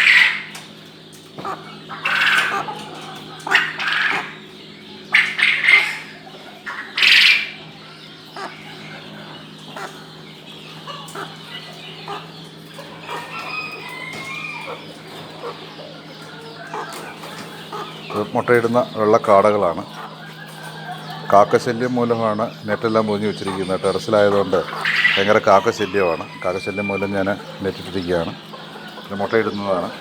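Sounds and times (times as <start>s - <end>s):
chickens clucking and squawking: 0.0s - 30.0s
steady low hum: 0.0s - 30.0s.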